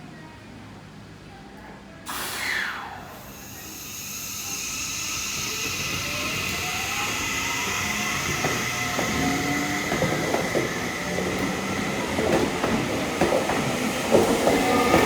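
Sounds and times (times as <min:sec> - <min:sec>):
train motors whining: 0:02.4 - 0:15.0.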